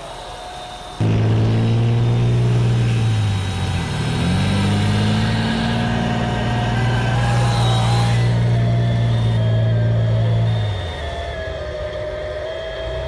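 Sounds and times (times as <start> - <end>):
simulated tank engine sound: 1.0 - 13.0.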